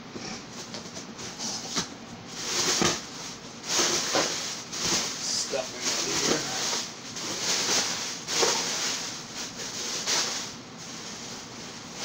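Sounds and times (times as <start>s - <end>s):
plastic wrap crinkling: 1.8s - 12.0s.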